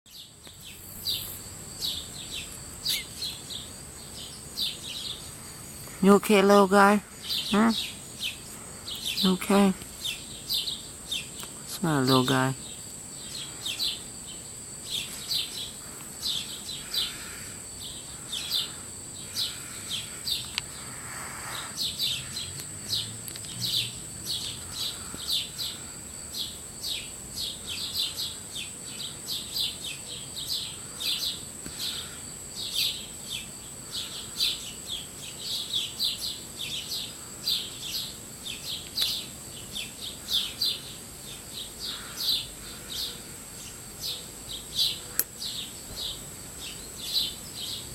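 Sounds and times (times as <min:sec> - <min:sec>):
high-pitched whine: 0:00.1 - 0:47.9
small bird chirping: 0:00.1 - 0:47.9.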